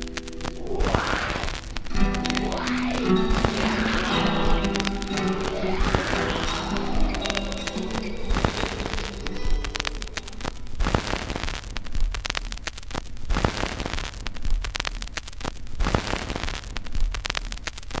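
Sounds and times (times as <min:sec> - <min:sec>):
crackling static noise: 0:00.0 - 0:18.0.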